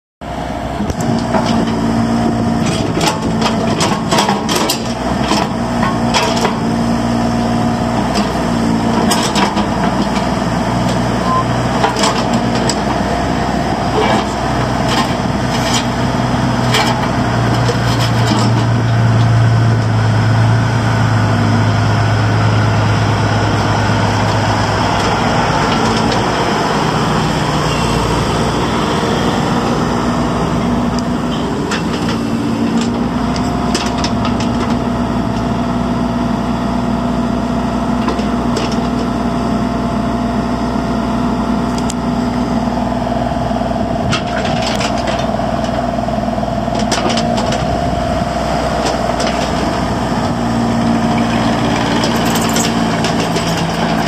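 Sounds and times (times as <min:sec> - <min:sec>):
excavator diesel engine running: 0:00.2 - 0:54.0
hydraulics working: 0:00.6 - 0:36.3, 0:40.6 - 0:54.0.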